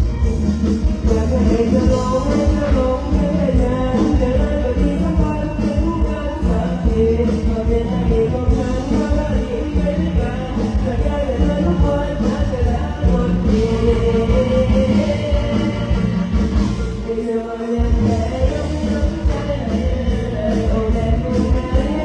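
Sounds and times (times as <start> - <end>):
heavy bass: 0.0 - 22.0
live band music with singing: 0.0 - 22.0.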